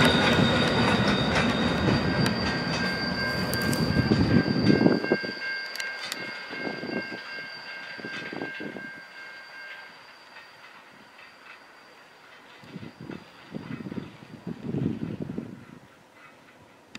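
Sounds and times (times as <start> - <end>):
high squeal of wheels on rail: 0.0 - 16.9
train wheels clicking over rail joints: 0.0 - 16.9.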